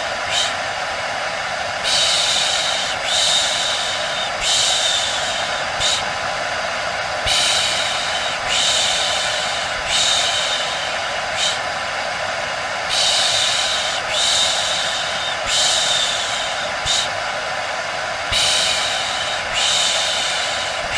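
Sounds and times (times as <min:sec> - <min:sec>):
hair dryer running: 0:00.0 - 0:20.9.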